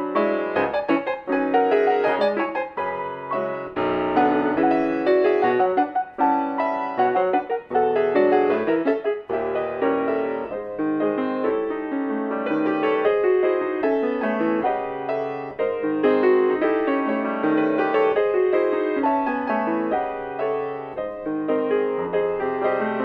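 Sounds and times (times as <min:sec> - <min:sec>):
classical solo piano: 0:00.0 - 0:23.0.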